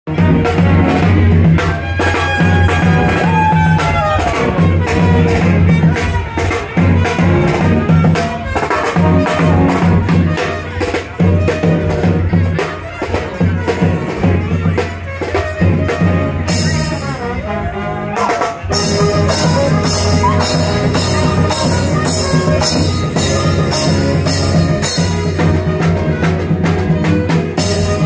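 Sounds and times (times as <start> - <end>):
drums beating: 0.1 - 28.0
street brass band playing: 0.1 - 28.0
horn sliding down in pitch: 0.2 - 28.0.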